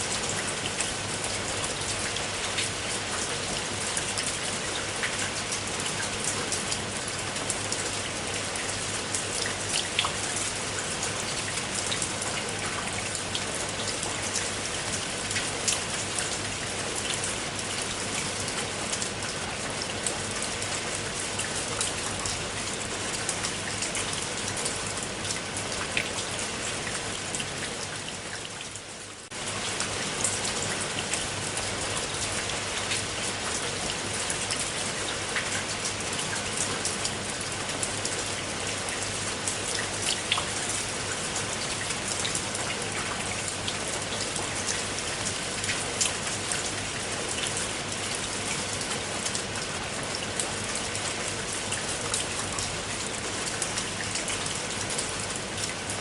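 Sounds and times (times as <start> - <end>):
rain drops striking surface: 0.0 - 56.0.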